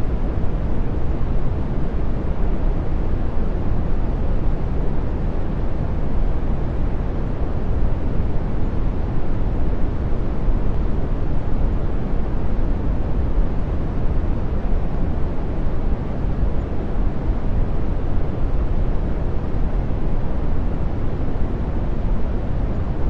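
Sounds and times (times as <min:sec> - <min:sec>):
brown noise rush: 0:00.0 - 0:23.0.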